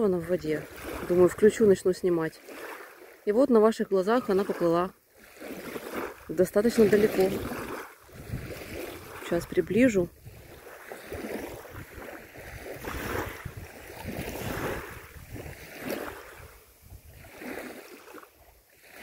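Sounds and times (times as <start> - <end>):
wind rumbling on microphone: 0.0 - 2.3, 4.2 - 19.0
small waves lapping at shore: 0.0 - 19.0.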